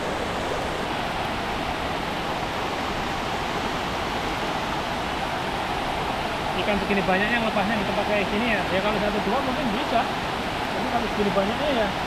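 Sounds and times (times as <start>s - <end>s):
water rushing over weir: 0.0s - 12.0s.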